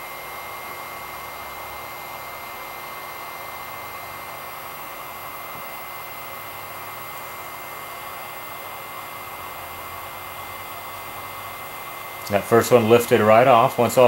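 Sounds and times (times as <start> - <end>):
heat gun blowing air: 0.0 - 14.0.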